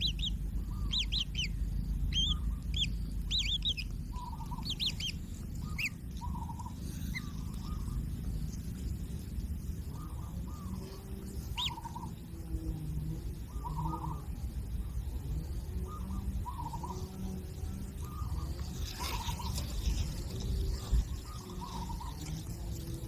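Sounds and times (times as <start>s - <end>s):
bird chicks calling: 0.0s - 23.0s
low rumble: 0.0s - 23.0s.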